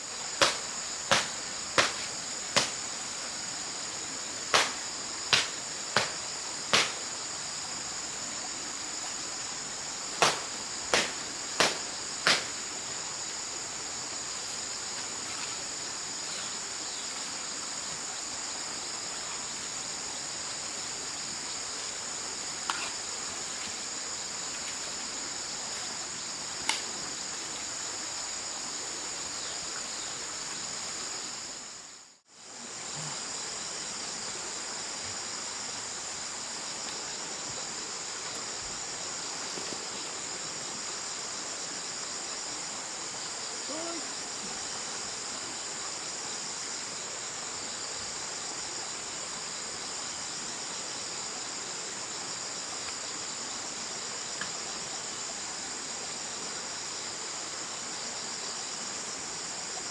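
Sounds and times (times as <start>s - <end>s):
crickets chirping: 0.0s - 59.9s
soft outdoor hiss: 0.0s - 59.9s.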